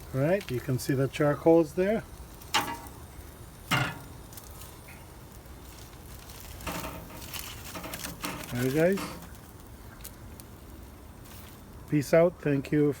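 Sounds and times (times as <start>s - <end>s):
grill sizzling and crackling: 0.0s - 13.0s.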